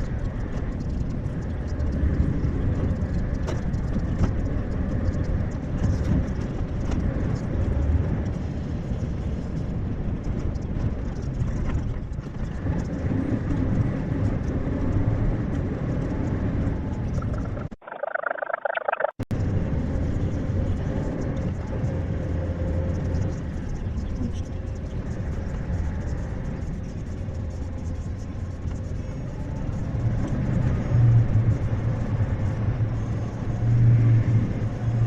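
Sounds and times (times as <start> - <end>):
lorry engine and road noise: 0.0 - 17.9, 19.4 - 35.0.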